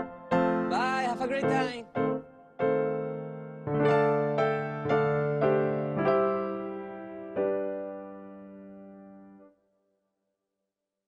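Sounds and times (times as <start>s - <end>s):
electric piano chords: 0.0s - 9.6s.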